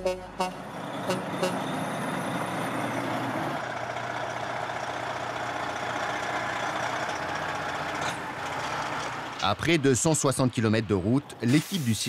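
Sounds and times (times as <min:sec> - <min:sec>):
diesel truck engine running: 0:00.0 - 0:11.4.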